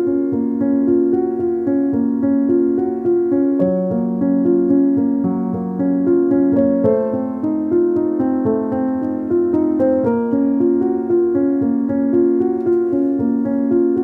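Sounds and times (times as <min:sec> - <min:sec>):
keyboard music with light beat: 0:00.0 - 0:14.0.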